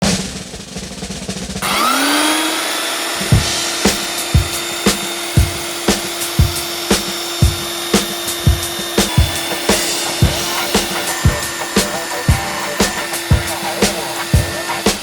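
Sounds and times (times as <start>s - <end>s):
belt sander motor whine: 1.6s - 15.0s.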